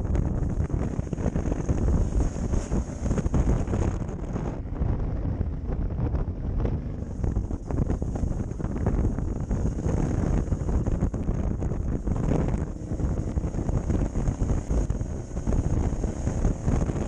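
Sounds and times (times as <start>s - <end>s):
motorcycle and road rumble: 0.0s - 17.0s
wind buffeting microphone: 0.0s - 17.0s.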